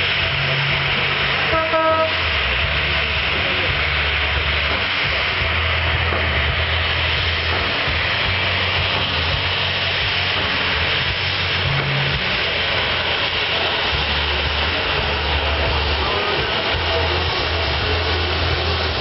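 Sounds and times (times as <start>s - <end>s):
airliner cabin engine hiss: 0.0s - 19.0s
low rumble: 2.2s - 19.0s.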